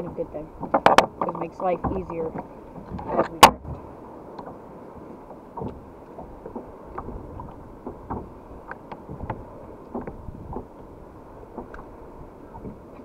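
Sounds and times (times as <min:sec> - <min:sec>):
steady wash of water: 0:00.0 - 0:13.0
water slapping against kayak hull: 0:00.0 - 0:13.0.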